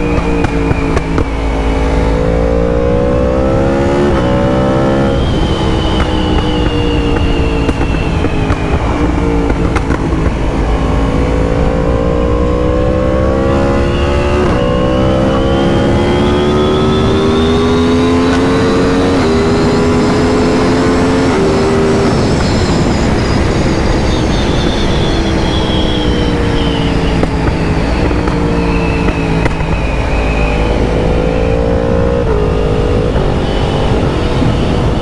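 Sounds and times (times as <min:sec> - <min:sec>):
motorcycle engine under load: 0:00.0 - 0:35.0
wind rumble on microphone: 0:00.0 - 0:35.0.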